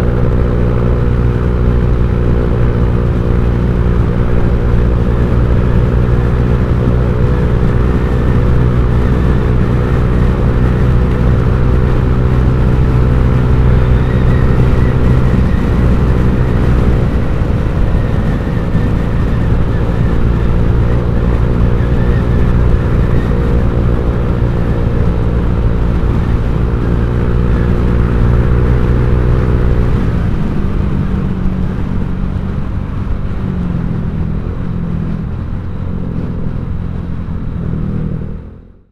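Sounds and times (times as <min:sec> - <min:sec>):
scooter engine running: 0:00.0 - 0:38.8.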